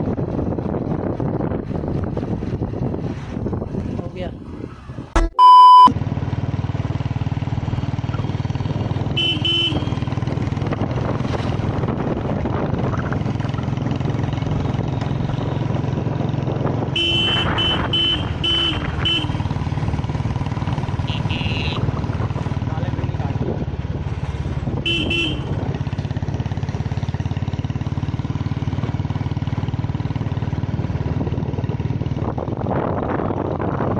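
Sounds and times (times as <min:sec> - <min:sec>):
motorcycle engine running: 0:05.9 - 0:33.9.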